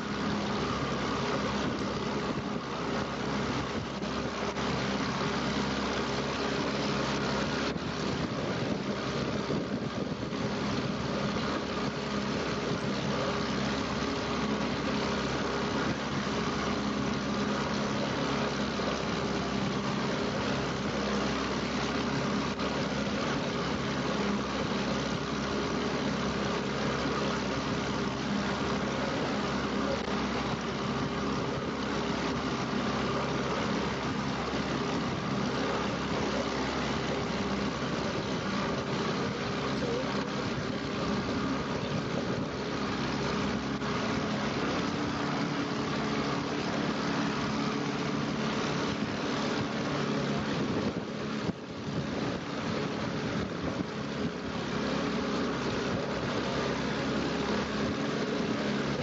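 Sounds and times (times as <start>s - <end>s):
motorboat engine running: 0.0s - 59.0s
water rushing from wake: 0.0s - 59.0s.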